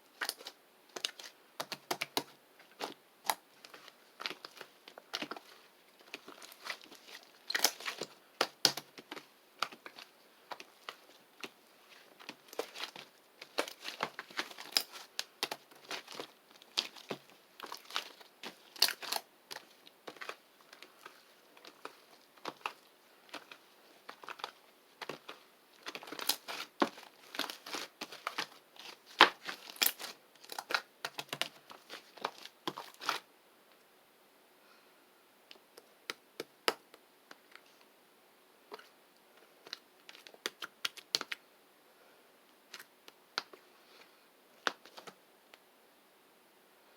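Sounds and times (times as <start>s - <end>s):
crinkling and crackling: 0.0s - 33.8s, 38.7s - 41.4s, 42.7s - 45.6s.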